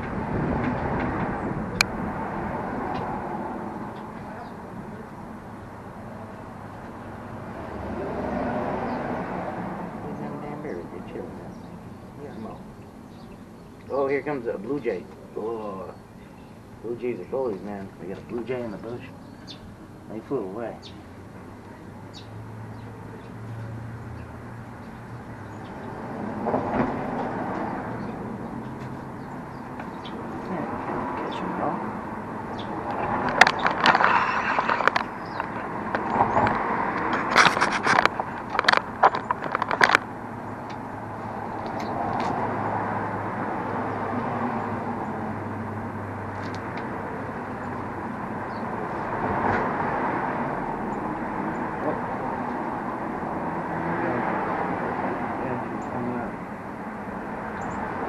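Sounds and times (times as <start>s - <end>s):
vehicle rumble passing: 0.0s - 58.0s.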